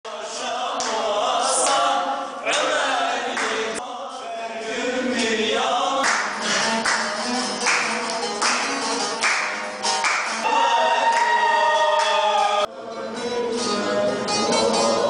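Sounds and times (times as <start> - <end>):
voices singing folk song: 0.1 - 15.0.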